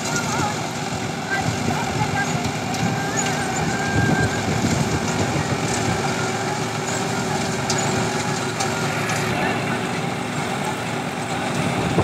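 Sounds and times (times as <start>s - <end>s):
reaper machinery chopping straw: 0.0s - 12.0s
tractor diesel engine running: 0.0s - 12.0s.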